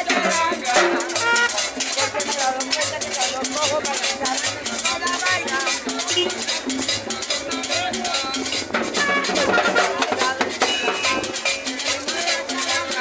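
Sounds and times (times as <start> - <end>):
congas: 0.0 - 13.0
cowbell: 0.0 - 13.0
latin dance band playing: 0.0 - 13.0.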